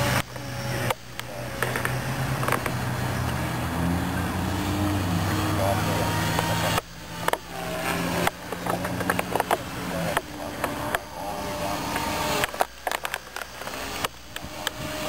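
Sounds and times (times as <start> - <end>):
rc helicopter motor and rotor hum: 0.0 - 15.0.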